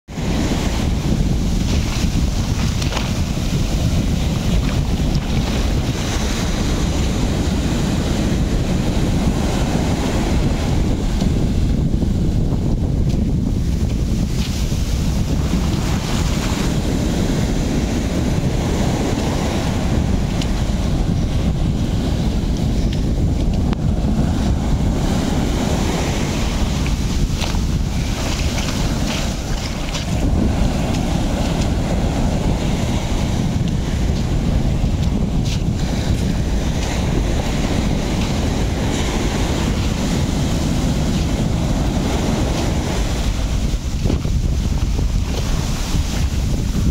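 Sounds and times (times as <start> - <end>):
wind buffeting microphone: 0.0 - 46.9
ocean surf breaking: 0.1 - 46.9.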